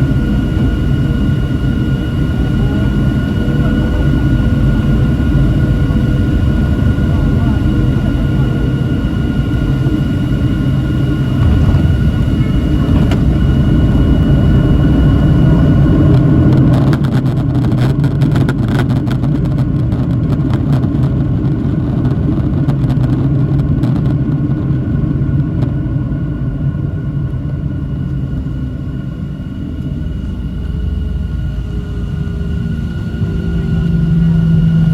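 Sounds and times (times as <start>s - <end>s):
high engine whine: 0.0s - 34.9s
jet engines low rumble: 0.0s - 34.9s.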